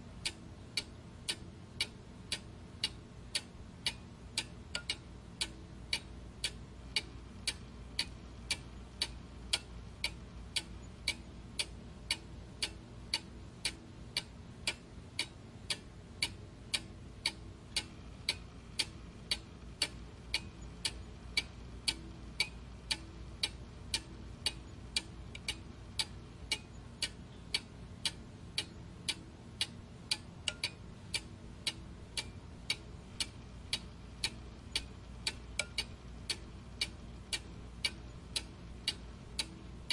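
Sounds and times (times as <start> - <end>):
faint low hum: 0.0 - 39.9
clock-like ticking: 0.2 - 39.9.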